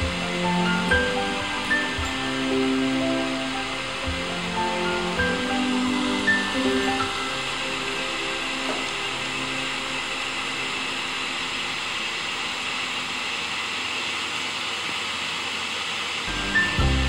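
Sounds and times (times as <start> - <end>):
steady machine air hiss: 0.0 - 17.0.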